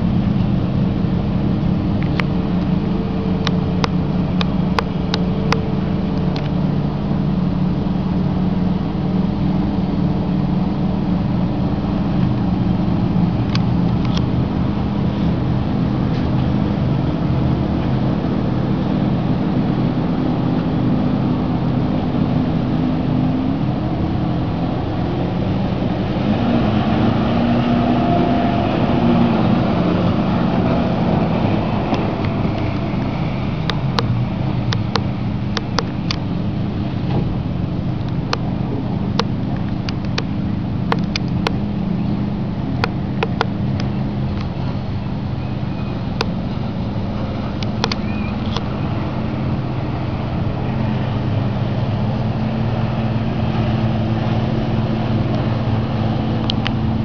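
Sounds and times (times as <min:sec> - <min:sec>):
boat engines running: 0:00.0 - 0:57.0.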